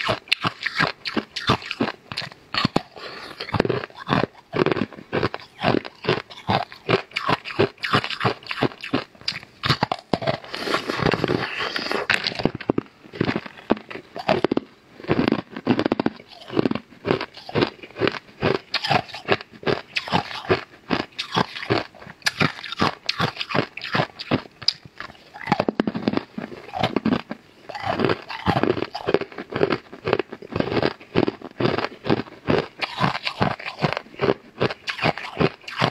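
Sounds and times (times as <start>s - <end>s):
crisp food crunching: 0.0s - 35.9s.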